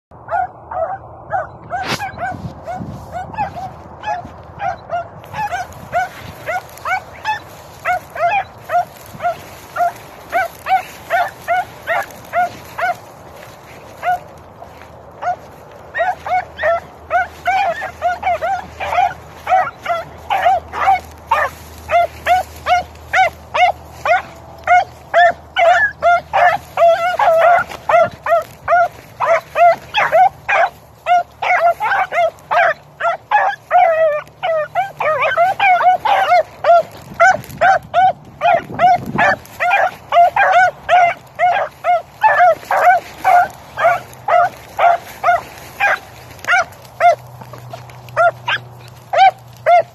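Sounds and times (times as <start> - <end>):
hounds barking: 0.2 - 49.9.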